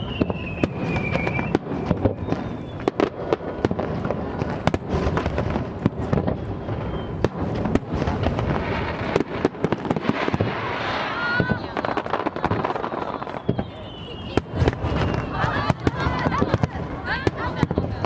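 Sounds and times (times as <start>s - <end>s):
falling firework whistle: 0.0s - 17.8s
fireworks cracks and bangs: 0.0s - 18.0s.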